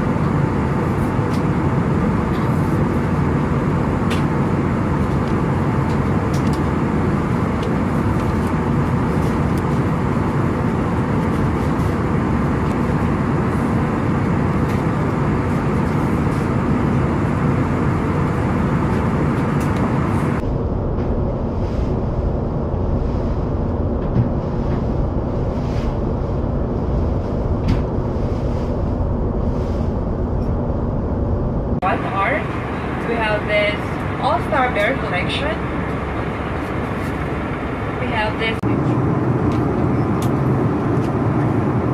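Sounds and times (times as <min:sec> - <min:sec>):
airplane cabin engine and airflow noise: 0:00.0 - 0:41.9.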